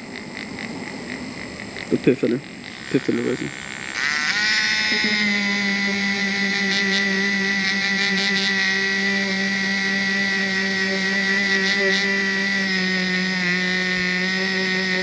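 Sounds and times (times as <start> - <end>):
power tool motor whine: 0.0 - 15.0.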